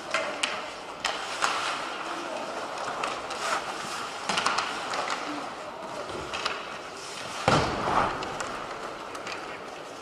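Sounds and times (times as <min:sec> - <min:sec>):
hockey sticks and skates on ice: 0:00.0 - 0:10.0.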